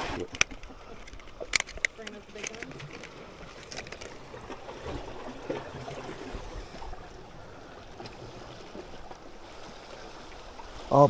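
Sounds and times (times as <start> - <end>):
sea water lapping: 0.0 - 11.0.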